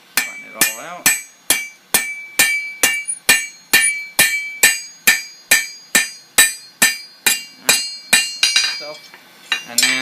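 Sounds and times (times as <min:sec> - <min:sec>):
hammer striking steel on anvil: 0:00.1 - 0:10.0.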